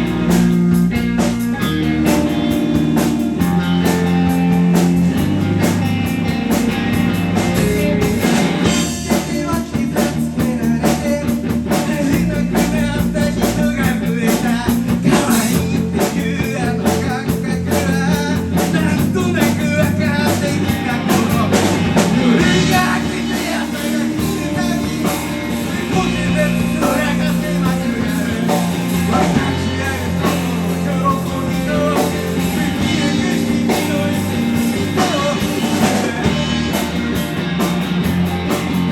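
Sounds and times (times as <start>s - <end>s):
bass guitar: 0.0s - 38.9s
drums: 0.0s - 38.9s
electric guitar: 0.0s - 38.9s.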